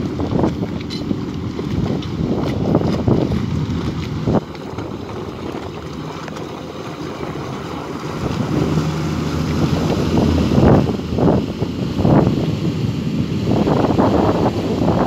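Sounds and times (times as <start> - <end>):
harbour ambience: 0.0 - 15.0
low boat engine hum: 0.0 - 15.0
wind buffeting microphone: 0.0 - 15.0.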